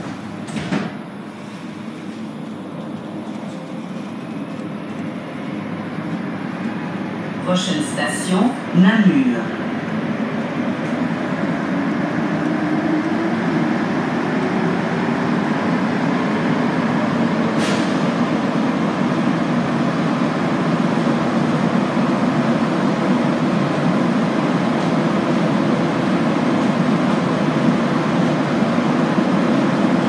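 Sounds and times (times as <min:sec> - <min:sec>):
train rumbling in tunnel: 0:00.0 - 0:30.0.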